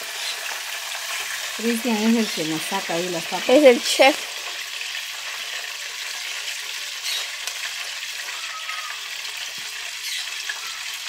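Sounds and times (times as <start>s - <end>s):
fries sizzling in oil: 0.0s - 11.0s.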